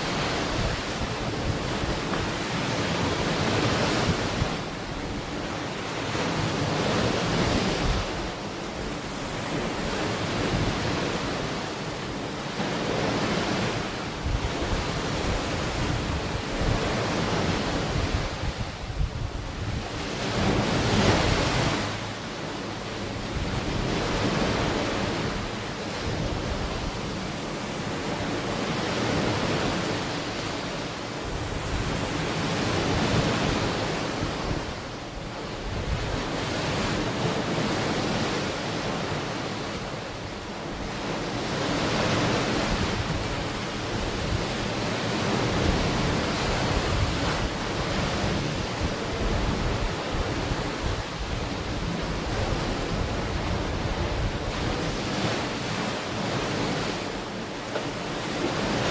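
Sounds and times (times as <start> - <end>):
ocean waves breaking on beach: 0.0 - 58.9
wind on microphone: 0.0 - 58.9.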